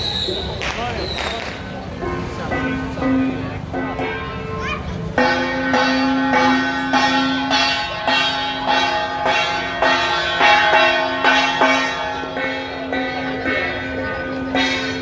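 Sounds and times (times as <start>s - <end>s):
metal percussion ringing strokes: 1.7s - 15.0s.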